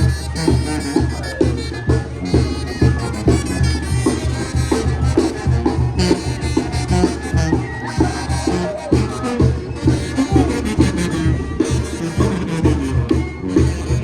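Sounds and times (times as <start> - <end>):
held melody: 0.0 - 14.0
steady drum beat: 0.0 - 14.0.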